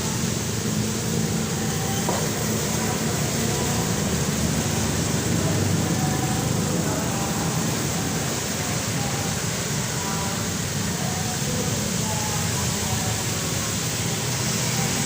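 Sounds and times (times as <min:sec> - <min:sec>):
steady rain: 0:00.0 - 0:15.0
traffic on a wet road: 0:00.0 - 0:15.0.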